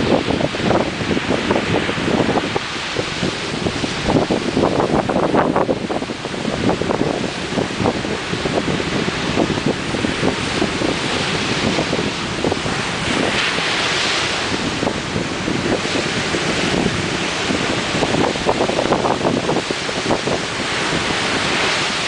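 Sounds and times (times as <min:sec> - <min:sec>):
ocean surf breaking: 0:00.0 - 0:22.0
wind on microphone: 0:00.0 - 0:22.0.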